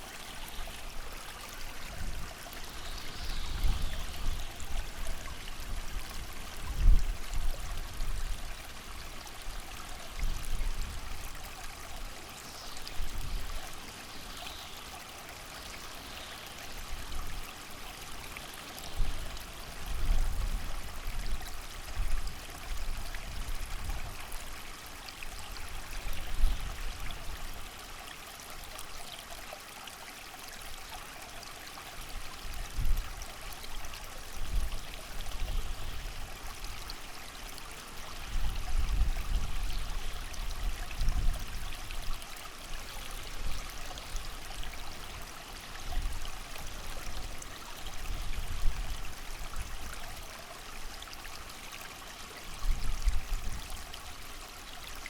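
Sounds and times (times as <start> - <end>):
creek water flowing: 0.0 - 55.0
rain: 0.0 - 55.0.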